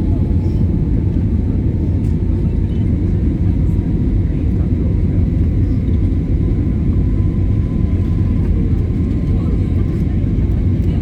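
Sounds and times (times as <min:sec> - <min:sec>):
airliner engines and airflow rumble: 0:00.0 - 0:11.0.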